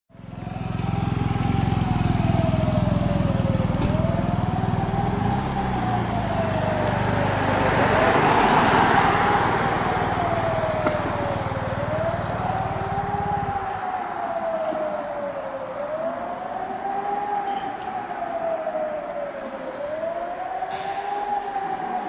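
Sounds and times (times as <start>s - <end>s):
alarm siren wailing: 0.6s - 22.0s.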